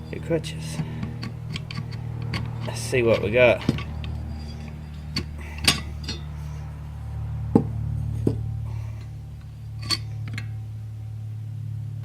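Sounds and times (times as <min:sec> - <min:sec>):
metal clutch plates clinking: 0:00.0 - 0:06.7, 0:07.6 - 0:10.7
steady low hum: 0:00.0 - 0:12.0.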